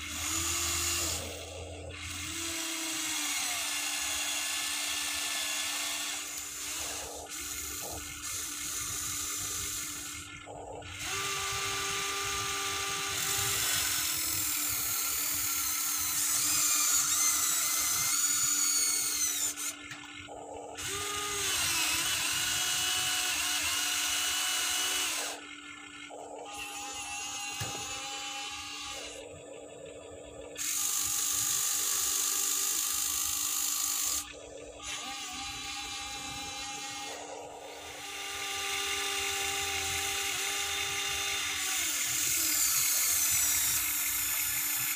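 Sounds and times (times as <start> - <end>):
small electric motors whining: 0.0 - 44.9.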